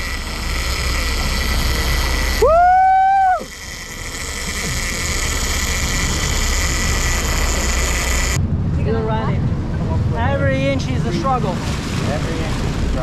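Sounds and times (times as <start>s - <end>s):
boat engine rushing: 0.0s - 13.0s
churning water: 0.0s - 13.0s.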